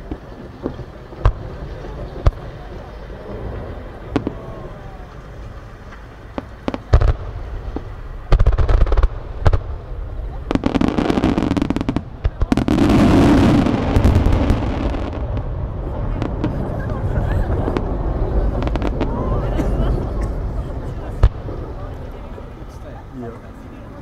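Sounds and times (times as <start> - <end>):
firework shells booming: 0.0 - 3.1, 3.8 - 22.0
firework crackling: 0.0 - 23.6.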